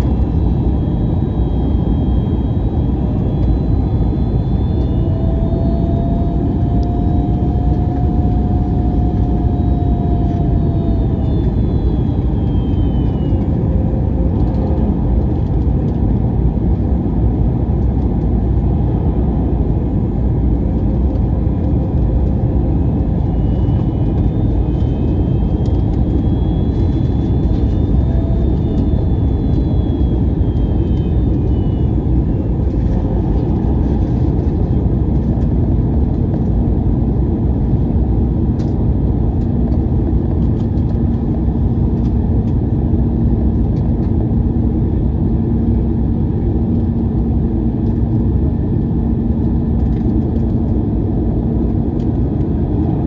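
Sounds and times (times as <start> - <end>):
airliner cabin engine rush: 0.0 - 53.0.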